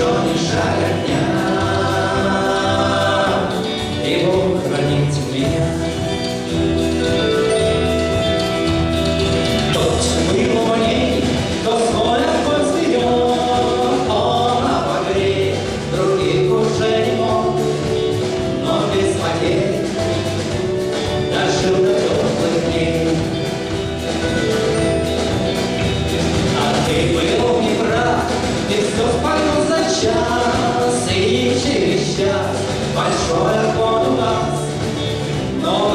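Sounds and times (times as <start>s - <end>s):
choir singing over a beat: 0.0s - 6.8s, 9.6s - 24.5s, 25.4s - 35.9s.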